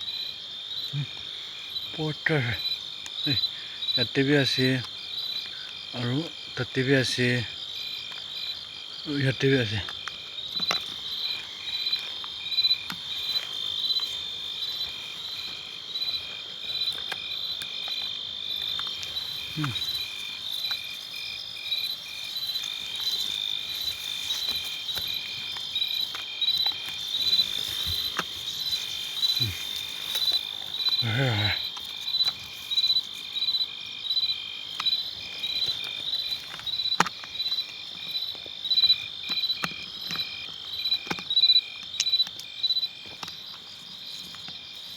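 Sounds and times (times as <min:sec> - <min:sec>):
pulsed insect chirps: 0:00.0 - 0:43.0
insects droning: 0:00.0 - 0:44.9.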